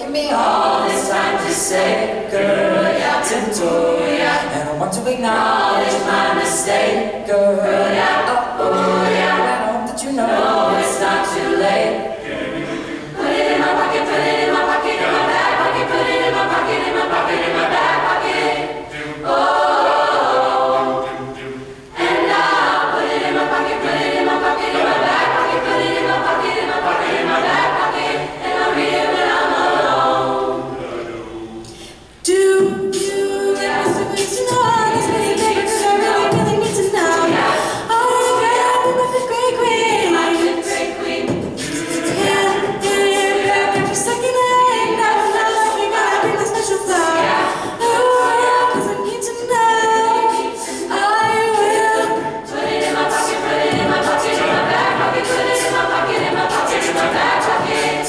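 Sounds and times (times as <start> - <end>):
mixed choir singing a cappella: 0.0 - 58.0.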